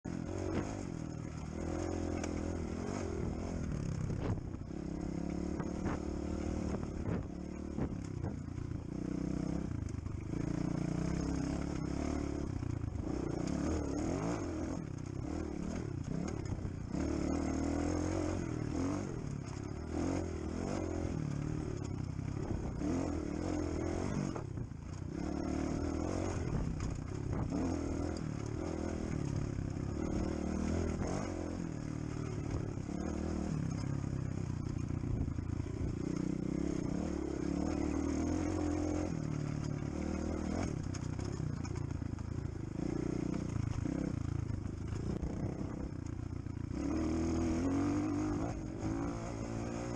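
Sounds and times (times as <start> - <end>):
dirt bike engine revving: 0.0 - 46.0, 46.6 - 49.9.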